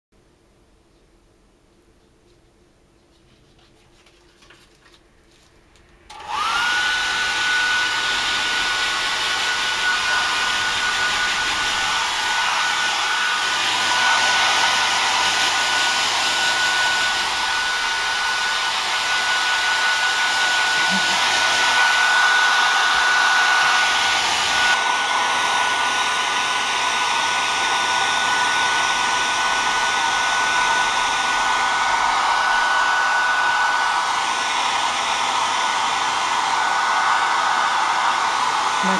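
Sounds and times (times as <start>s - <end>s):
hair dryer motor whine: 6.1s - 38.9s.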